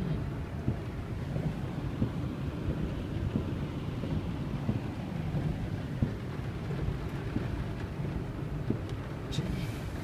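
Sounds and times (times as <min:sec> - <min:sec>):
faint rain taps: 0:00.0 - 0:10.0
heavy rain on a car: 0:00.0 - 0:10.0.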